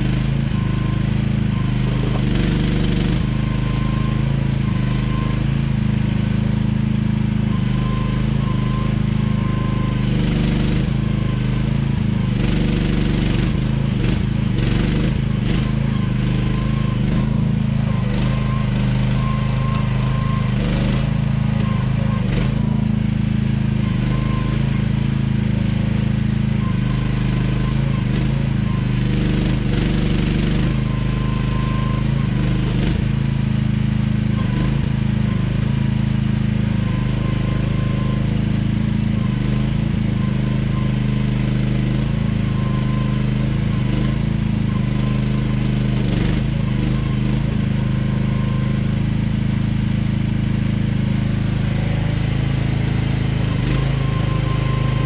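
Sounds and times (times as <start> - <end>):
mini excavator engine running: 0.0 - 55.0.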